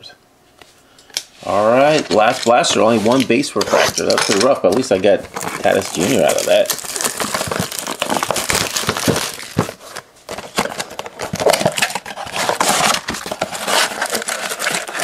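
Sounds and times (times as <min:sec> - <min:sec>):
cardboard being handled: 0:01.5 - 0:15.0
plastic wrapping crinkling: 0:01.6 - 0:15.0.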